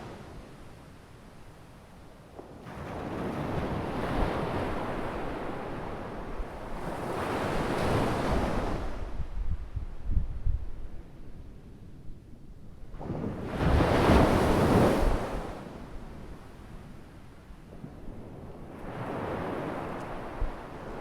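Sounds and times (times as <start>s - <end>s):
waves breaking and washing in: 0.0s - 12.0s, 12.7s - 21.0s
wind rumbling on microphone: 2.2s - 21.0s.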